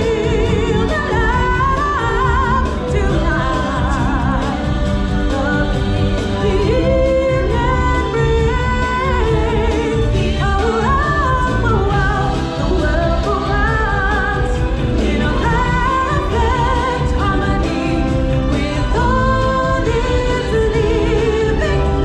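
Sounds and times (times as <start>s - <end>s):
singing voices over bass: 0.0s - 22.0s.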